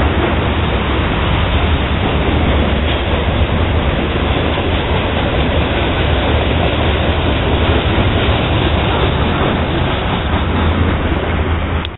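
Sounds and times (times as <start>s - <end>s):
freight train boxcars rolling: 0.0s - 11.9s
loud rushing noise with low rumble: 0.0s - 11.9s.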